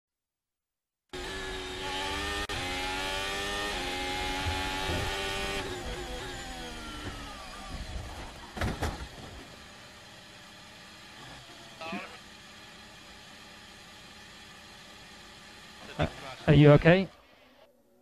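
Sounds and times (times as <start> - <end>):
racing car engine at high revs: 1.1 - 17.7.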